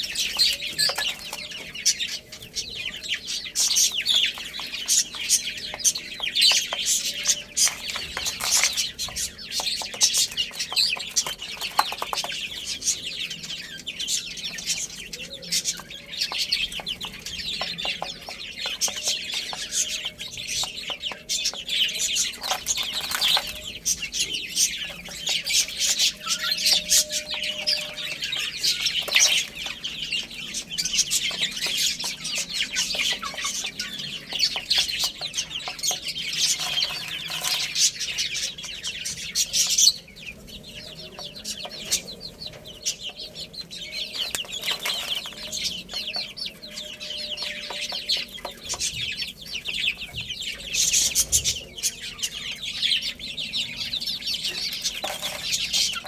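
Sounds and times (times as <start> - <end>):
baby chicks cheeping: 0.0 - 56.0.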